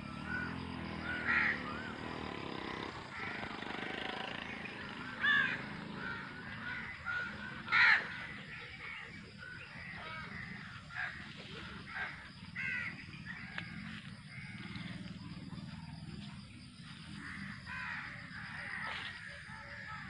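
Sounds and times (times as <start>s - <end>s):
birds harsh calls: 0.0s - 20.0s.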